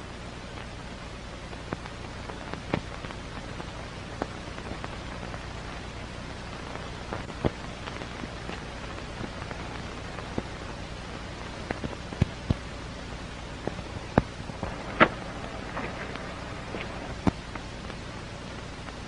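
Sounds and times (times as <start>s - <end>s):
crackles and pops: 0.0s - 19.0s
film soundtrack hiss: 0.0s - 19.0s
low hum: 0.0s - 19.0s.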